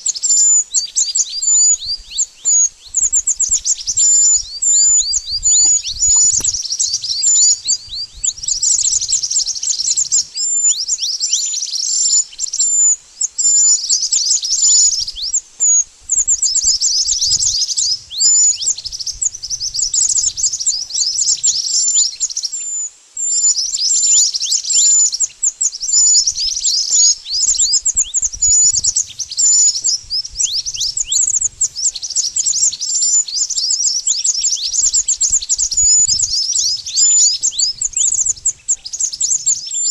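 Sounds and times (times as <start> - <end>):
bird calling high thin chips: 0.0 - 39.9.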